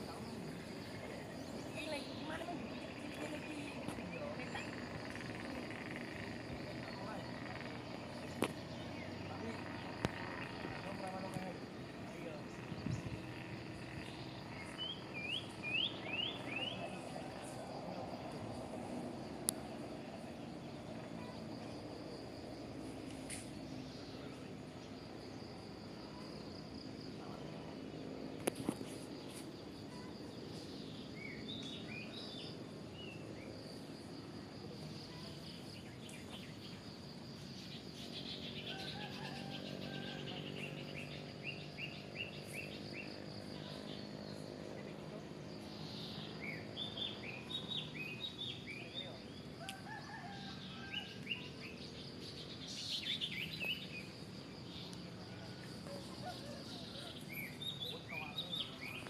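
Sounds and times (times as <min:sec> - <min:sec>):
birds chirping: 0:00.0 - 0:34.2, 0:34.8 - 0:59.0
high insect buzz: 0:00.0 - 0:50.2.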